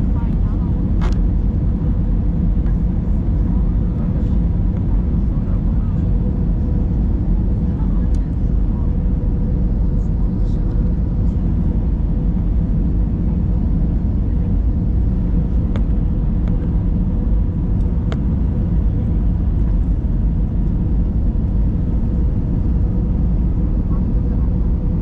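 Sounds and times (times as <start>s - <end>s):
airliner cabin engine rumble: 0.0s - 25.0s
faint constant hum: 0.0s - 25.0s.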